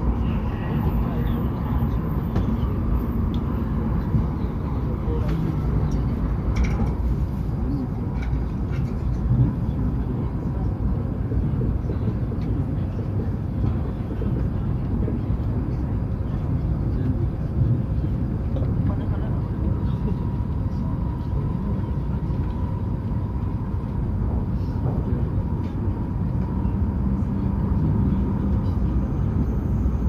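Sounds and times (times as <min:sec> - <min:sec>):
train low rumble: 0:00.0 - 0:30.0.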